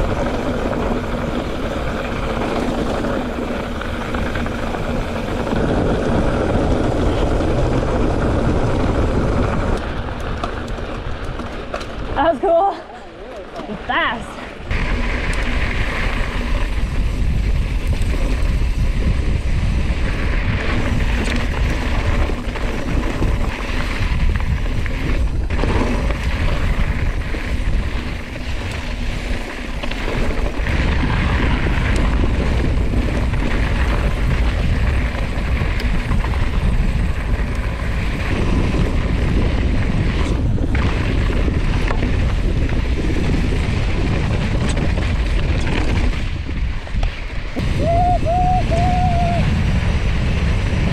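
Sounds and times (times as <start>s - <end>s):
wind on microphone: 0.0s - 11.4s, 14.0s - 50.9s
bike rattling: 0.0s - 50.9s
tyres rumbling on loose stones: 0.0s - 50.9s.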